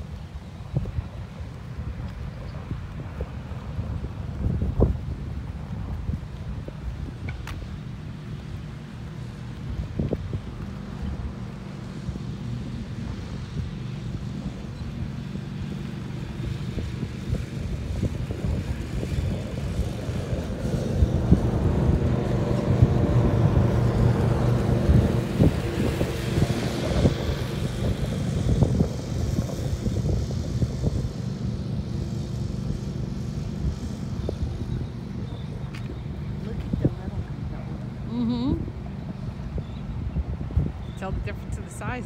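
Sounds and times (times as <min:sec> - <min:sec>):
boat engine droning: 0:00.0 - 0:42.0
wind rumbling on microphone: 0:00.0 - 0:42.0.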